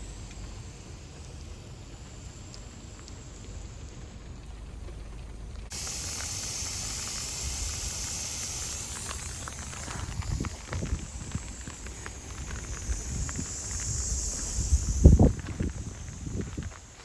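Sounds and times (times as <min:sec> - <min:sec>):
sprinkler spray hissing: 0:00.0 - 0:05.0, 0:05.7 - 0:17.0.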